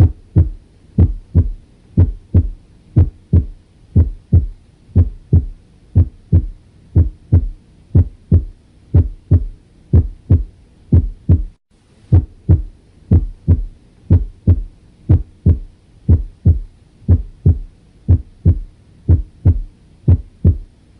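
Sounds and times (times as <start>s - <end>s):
heartbeat lub-dub: 0.0s - 20.8s.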